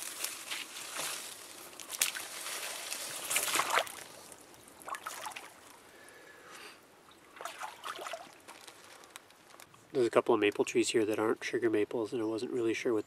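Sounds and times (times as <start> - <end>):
grass and branches rustling: 0.0 - 11.7.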